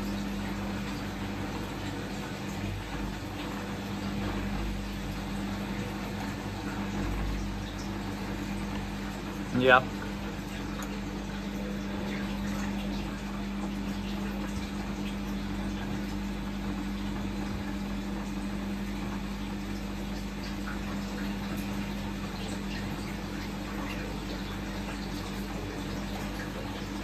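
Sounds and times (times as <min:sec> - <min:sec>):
washing machine motor hum: 0:00.0 - 0:27.0.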